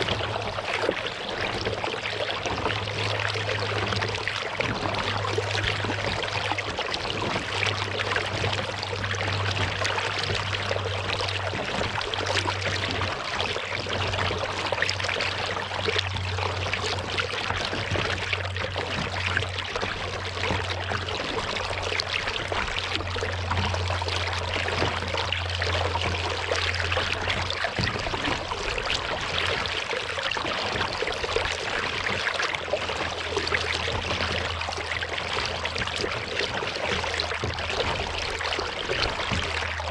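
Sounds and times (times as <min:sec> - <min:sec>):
steady low hum: 0:00.0 - 0:39.9
water trickling and splashing: 0:00.0 - 0:39.9.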